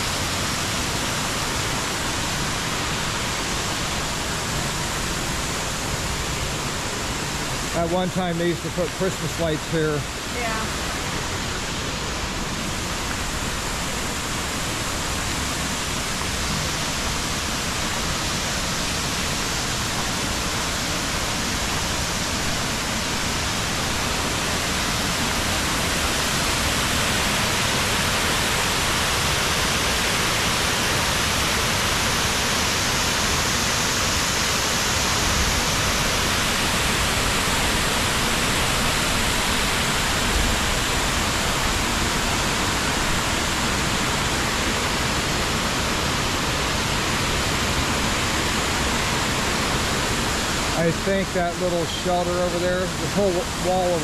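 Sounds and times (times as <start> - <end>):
small waterfall pouring into pool: 0.0 - 54.0.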